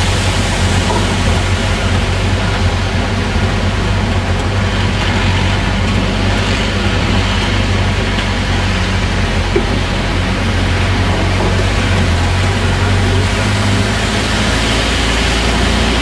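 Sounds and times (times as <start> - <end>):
road and wind noise: 0.0 - 16.0
vehicle engine running: 0.0 - 16.0.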